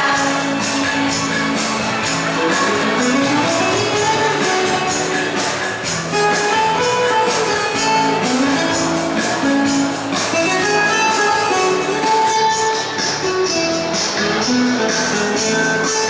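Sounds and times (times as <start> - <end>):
held melodic notes: 0.0 - 16.0
tambourine rhythm: 0.0 - 16.0.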